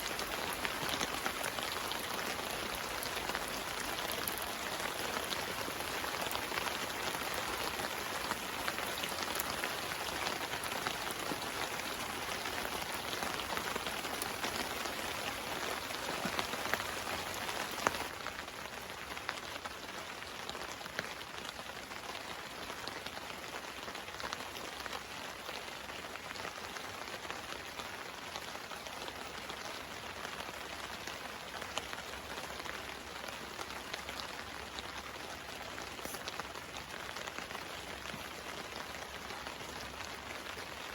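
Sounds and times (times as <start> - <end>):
rain on a tarp: 0.0 - 40.9.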